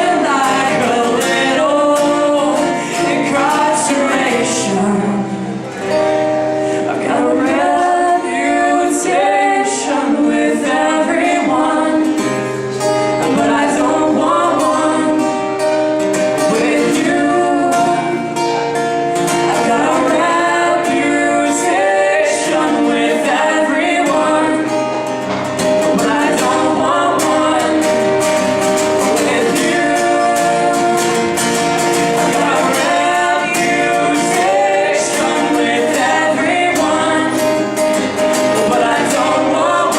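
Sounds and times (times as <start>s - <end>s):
person singing: 0.0s - 6.1s, 6.8s - 12.4s, 13.0s - 18.6s, 19.3s - 39.9s.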